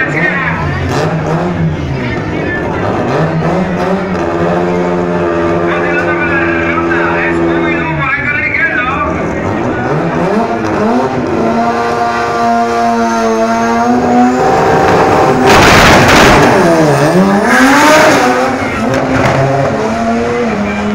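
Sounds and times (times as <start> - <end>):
drag car engine revving: 0.0 - 20.9
rush of tyre noise: 0.0 - 20.9.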